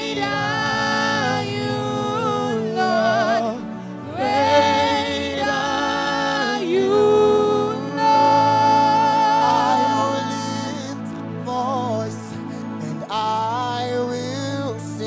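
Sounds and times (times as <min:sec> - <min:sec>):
instrumental backing: 0:00.0 - 0:15.0
person singing with vibrato: 0:00.0 - 0:15.0.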